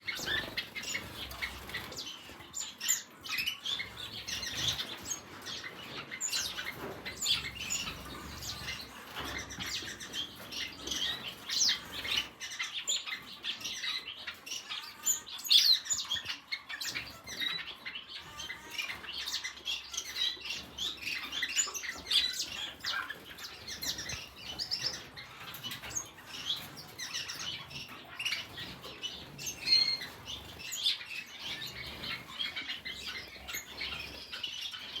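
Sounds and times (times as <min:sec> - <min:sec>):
flock of small birds chirping: 0:00.0 - 0:35.0.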